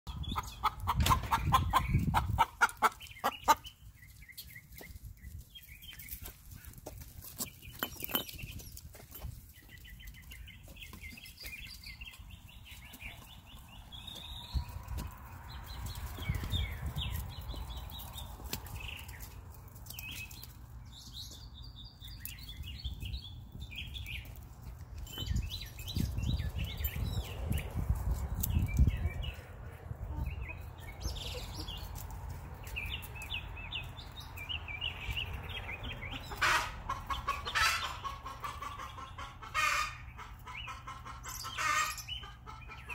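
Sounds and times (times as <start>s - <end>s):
hens clucking and chirping: 0.1s - 42.9s.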